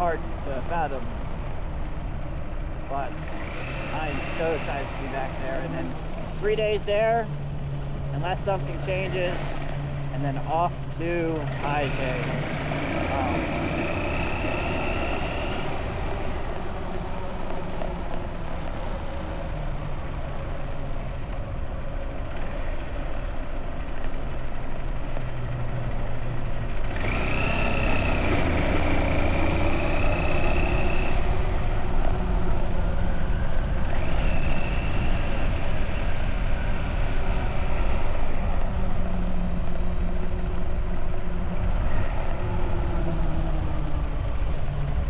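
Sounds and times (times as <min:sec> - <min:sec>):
high steady whine: 0:00.0 - 0:45.0
motorbike engine running: 0:00.0 - 0:45.0
road and wind noise: 0:00.0 - 0:45.0.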